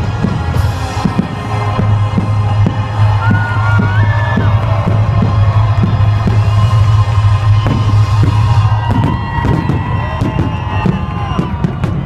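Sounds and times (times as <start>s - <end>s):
strong low hum: 0.0s - 10.2s
fireworks popping and crackling: 0.0s - 12.0s
music with long held tones: 0.0s - 12.0s.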